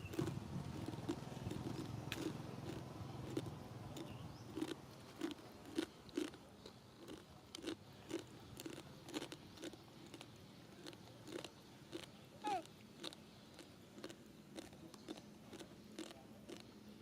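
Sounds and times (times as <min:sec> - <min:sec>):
monkey chewing crunchy food: 0:00.0 - 0:17.0.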